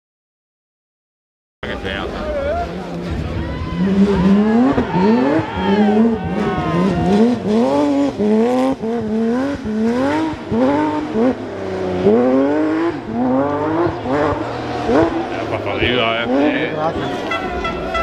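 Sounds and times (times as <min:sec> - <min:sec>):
car engine revving hard: 0:01.8 - 0:18.0.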